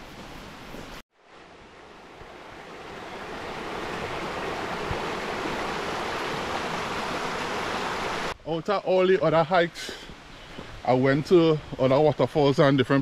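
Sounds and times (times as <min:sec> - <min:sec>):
stream flowing over stones: 0:01.2 - 0:12.9.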